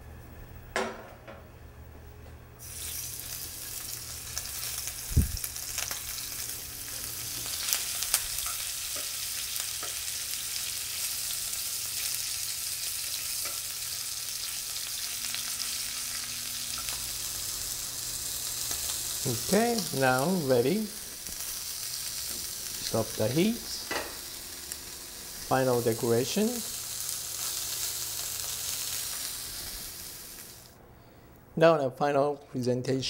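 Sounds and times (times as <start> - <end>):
food sizzling in hot oil: 2.6 - 30.7.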